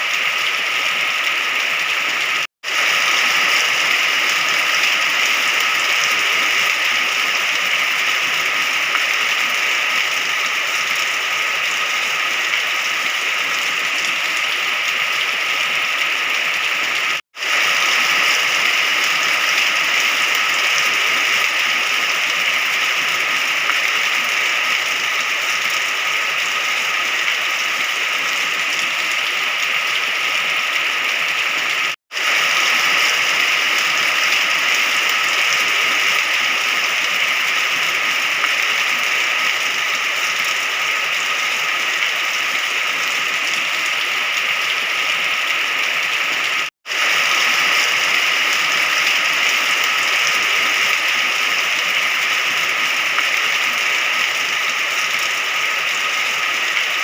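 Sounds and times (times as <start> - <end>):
dense rain falling: 0.0 - 57.0.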